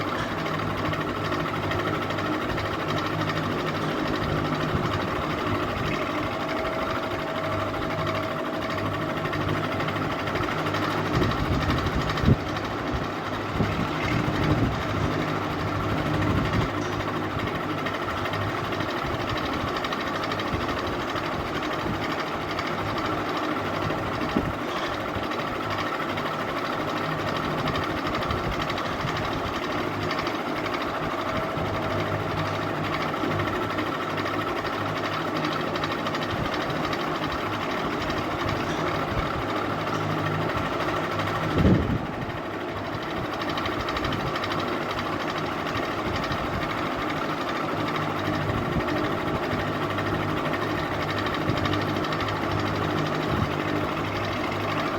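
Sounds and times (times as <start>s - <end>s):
ceiling fan whirring: 0.0s - 54.9s.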